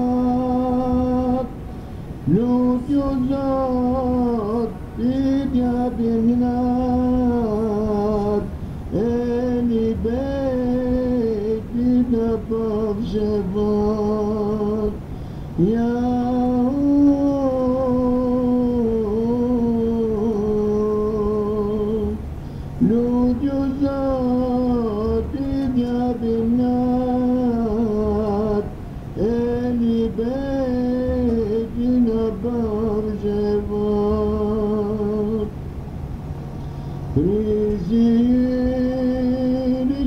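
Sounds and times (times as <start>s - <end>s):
person singing devotional hymn: 0.0s - 35.6s, 36.5s - 40.0s.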